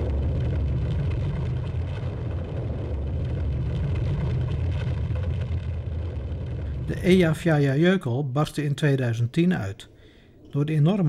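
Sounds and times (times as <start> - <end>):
faint crackles: 0.0 - 11.0
volcanic eruption deep rumble: 0.0 - 11.0.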